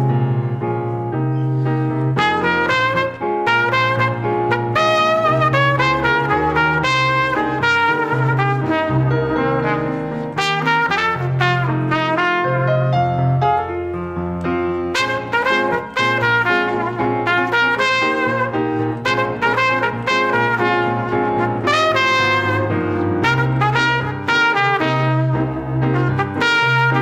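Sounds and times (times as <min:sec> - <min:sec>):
piano: 0:00.0 - 0:27.0
trumpets and trombones: 0:02.2 - 0:13.2, 0:14.9 - 0:27.0
bass line: 0:02.2 - 0:27.0.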